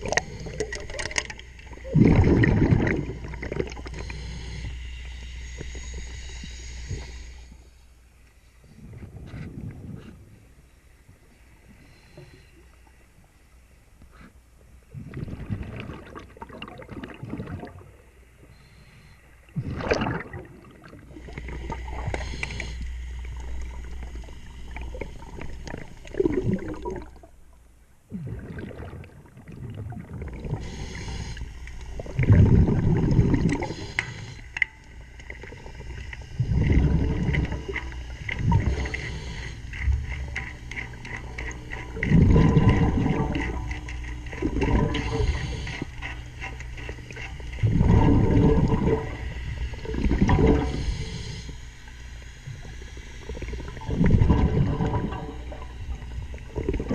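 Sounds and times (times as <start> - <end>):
exhaled bubbles from regulator: 0.0 - 7.3, 14.8 - 18.8, 19.5 - 56.9.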